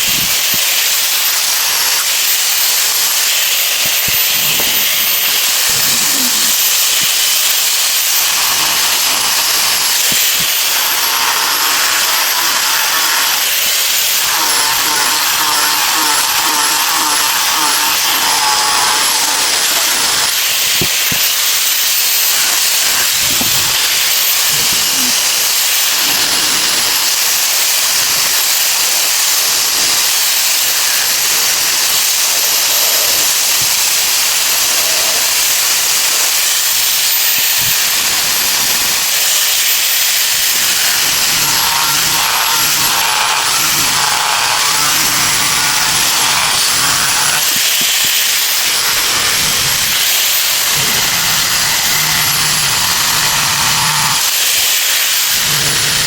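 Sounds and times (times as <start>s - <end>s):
electric power tool whining: 0.0s - 56.0s.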